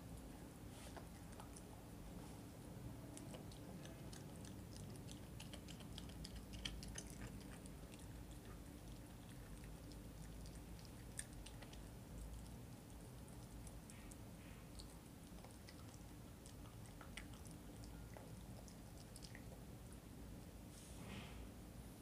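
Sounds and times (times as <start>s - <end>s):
puppy chewing on bone: 0.0s - 20.4s.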